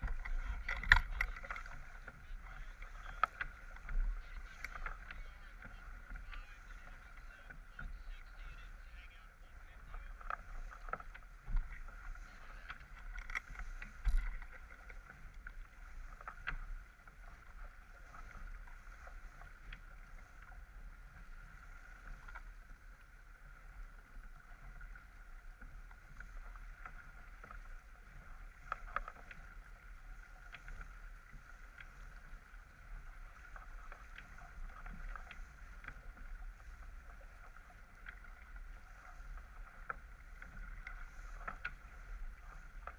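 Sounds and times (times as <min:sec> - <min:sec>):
water rushing along hull: 0:00.0 - 0:42.9.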